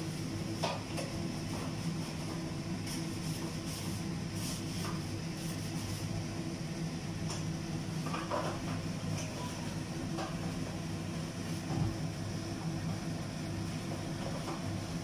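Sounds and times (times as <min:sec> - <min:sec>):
low machine hum and rumble: 0:00.0 - 0:15.0.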